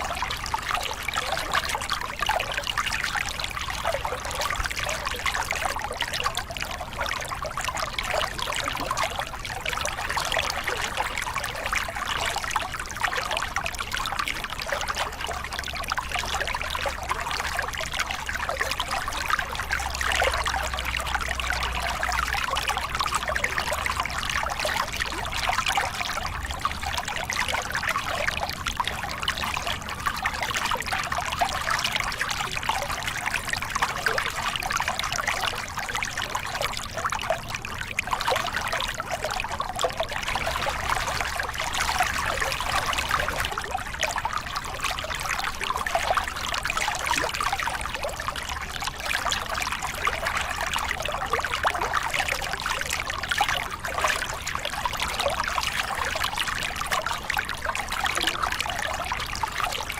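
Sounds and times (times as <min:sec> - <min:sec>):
water splashing over rocks: 0:00.0 - 0:59.9.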